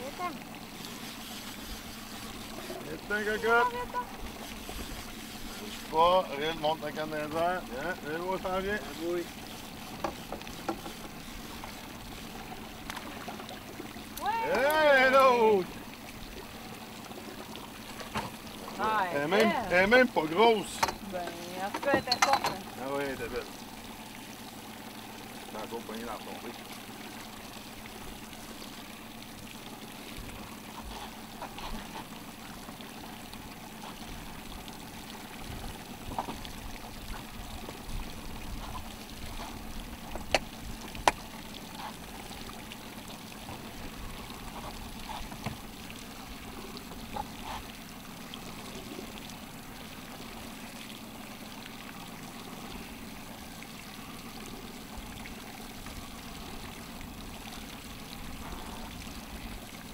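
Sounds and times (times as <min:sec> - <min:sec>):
water lapping against boat hull: 0:00.0 - 0:59.9.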